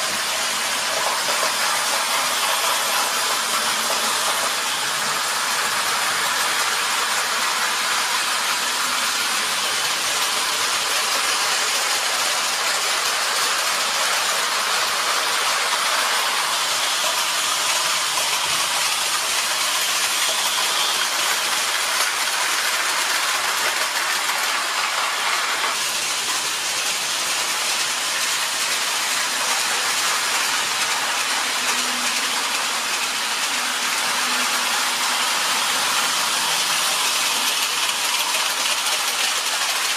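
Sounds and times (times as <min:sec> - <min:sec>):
model trains rolling on metal track: 0:00.0 - 0:39.9.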